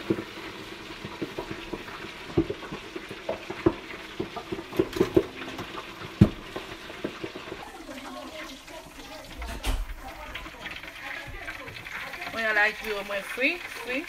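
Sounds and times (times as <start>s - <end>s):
oil popping and crackling: 0.0s - 14.0s
oil sizzling in deep fryer: 0.0s - 14.0s.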